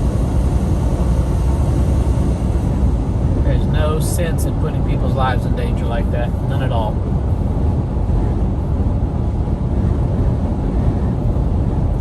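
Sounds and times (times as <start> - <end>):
truck engine and road rumble: 0.0 - 12.0
wind noise: 0.0 - 12.0.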